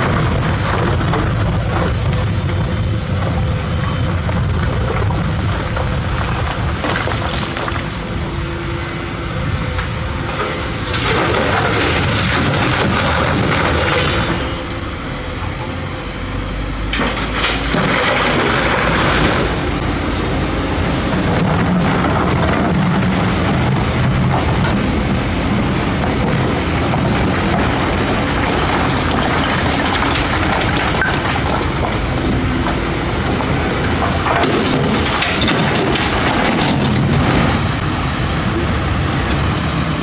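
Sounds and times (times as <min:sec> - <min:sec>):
excavator diesel engine digging: 0:00.0 - 0:40.0.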